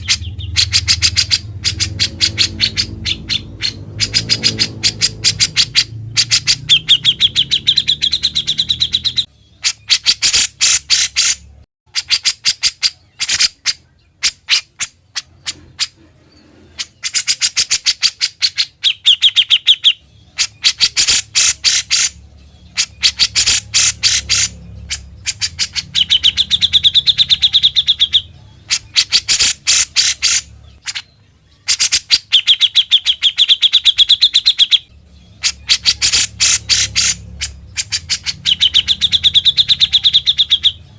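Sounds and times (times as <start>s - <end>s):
buzzy high bird trill: 0.0s - 16.0s, 16.7s - 40.9s.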